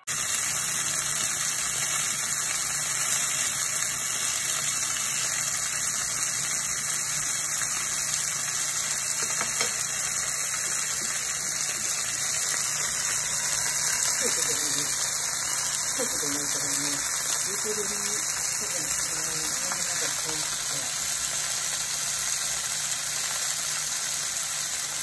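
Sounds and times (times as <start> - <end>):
shrimp sizzling in a frying pan: 0.0 - 25.0.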